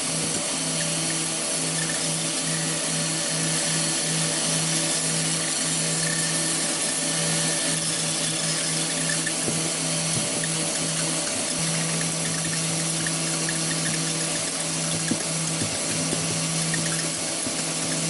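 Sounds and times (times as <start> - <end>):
power tool motor hum: 0.0 - 18.0
shredder blades grinding: 0.0 - 18.0.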